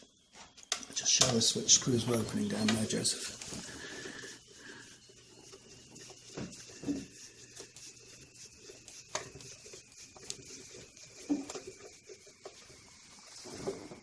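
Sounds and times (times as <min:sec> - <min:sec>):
faint rubbing: 0:01.3 - 0:14.0.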